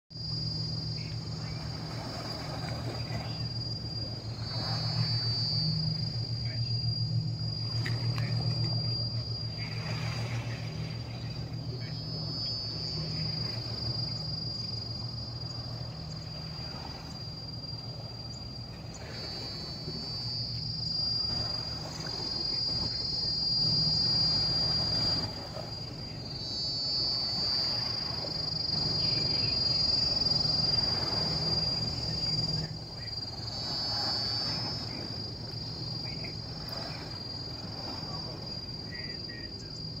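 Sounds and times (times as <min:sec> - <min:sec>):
insect buzzing drone: 0:00.1 - 0:40.0
low hum: 0:00.1 - 0:40.0.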